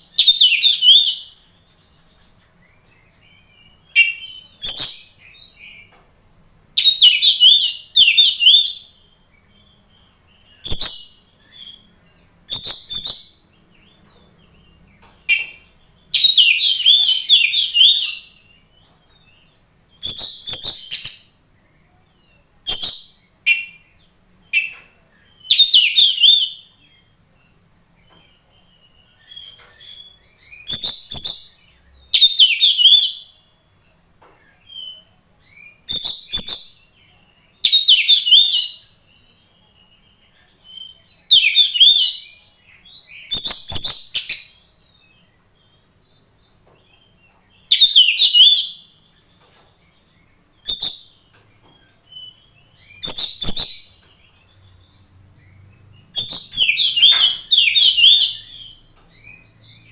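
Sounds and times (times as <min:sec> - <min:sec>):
magpie-robin singing: 0:00.0 - 0:06.0, 0:06.7 - 0:59.9.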